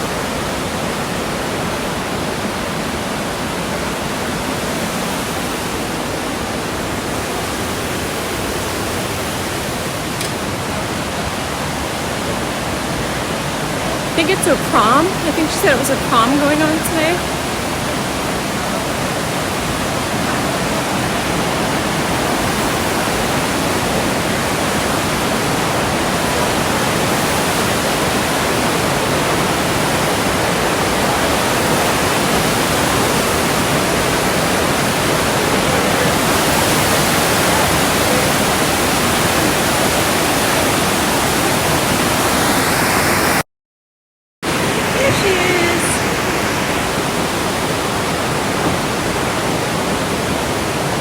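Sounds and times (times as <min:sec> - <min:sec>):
waterfall roaring: 0:00.0 - 0:43.4, 0:44.5 - 0:51.0.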